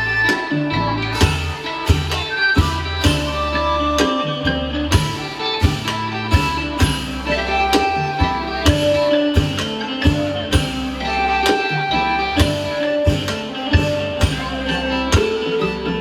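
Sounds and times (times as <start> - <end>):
plucked lute melody: 0.1 - 16.0
steady drum beat: 0.2 - 16.0.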